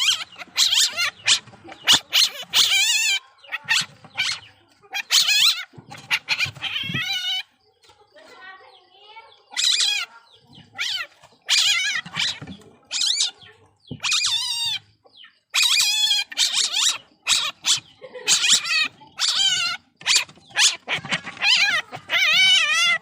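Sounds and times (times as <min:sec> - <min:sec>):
baby civet squealing: 0:00.0 - 0:07.6, 0:09.4 - 0:23.0.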